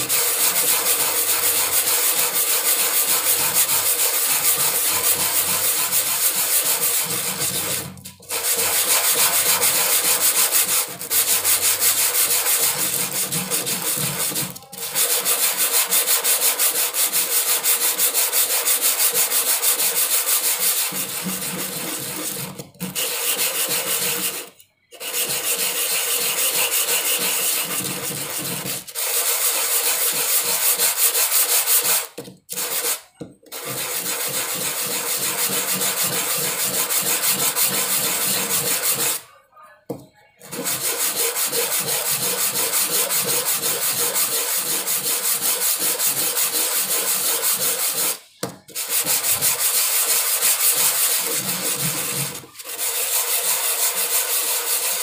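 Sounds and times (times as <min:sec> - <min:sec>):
wood sanding on sandpaper: 0:00.0 - 0:39.2, 0:40.4 - 0:55.0.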